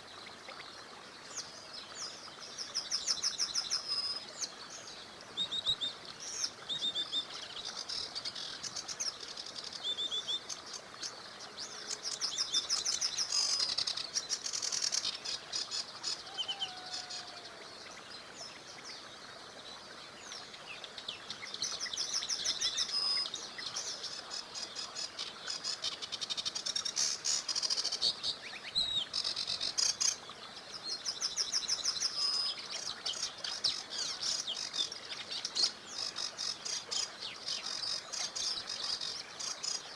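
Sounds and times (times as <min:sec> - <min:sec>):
small river rushing: 0:00.0 - 0:39.9
songbirds trilling and chirping: 0:00.0 - 0:39.9.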